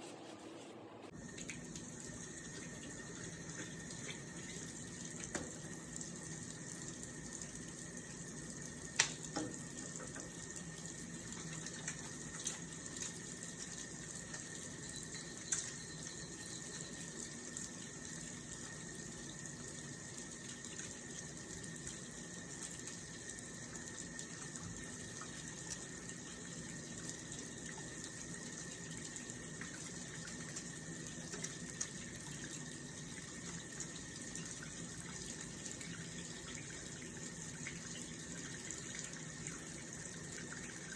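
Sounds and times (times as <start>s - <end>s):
tap water running: 1.1s - 40.9s.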